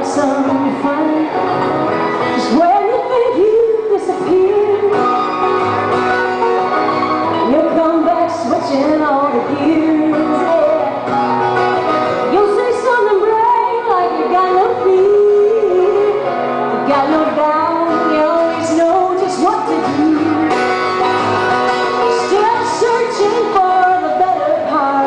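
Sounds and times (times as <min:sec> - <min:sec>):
woman singing folk song: 0:00.0 - 0:05.5, 0:07.2 - 0:25.0
strummed acoustic guitar: 0:00.0 - 0:25.0.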